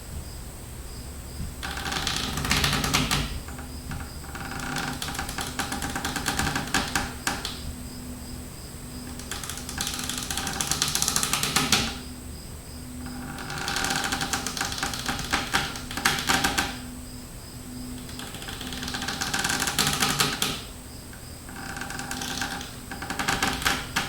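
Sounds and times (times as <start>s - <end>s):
taut rope creaking: 1.6s - 7.7s, 9.0s - 12.1s, 13.0s - 16.9s, 17.9s - 24.0s.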